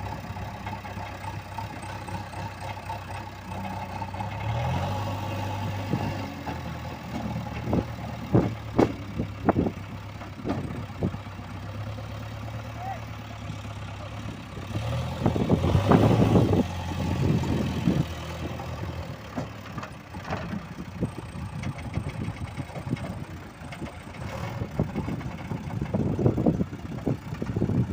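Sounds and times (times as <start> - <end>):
vehicle engine running: 0.0 - 27.9.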